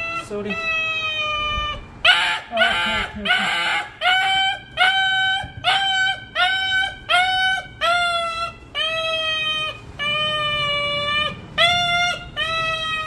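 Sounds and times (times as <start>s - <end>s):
dog yelping in pain: 0.0s - 13.0s.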